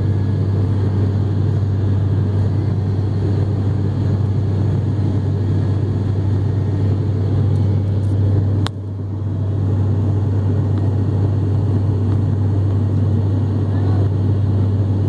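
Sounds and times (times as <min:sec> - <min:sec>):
propeller plane cabin drone: 0:00.0 - 0:15.0.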